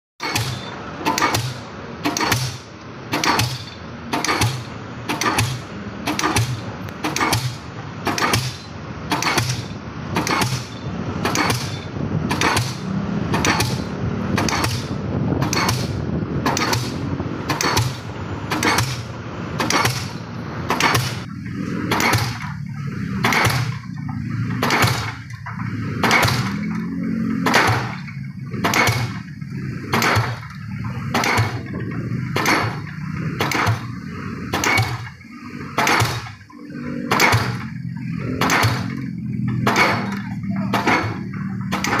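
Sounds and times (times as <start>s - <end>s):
pile-driving hammer striking concrete: 0.2s - 22.6s, 23.2s - 26.8s, 27.4s - 36.4s, 37.0s - 42.0s
machine drone: 0.2s - 42.0s.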